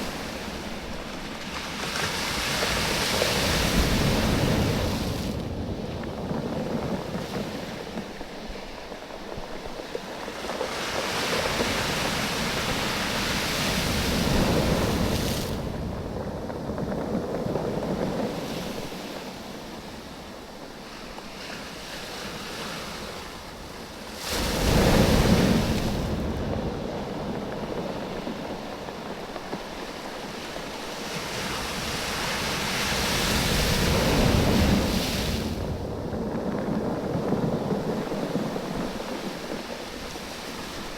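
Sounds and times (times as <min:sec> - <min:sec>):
waves washing on a beach: 0:00.0 - 0:40.9.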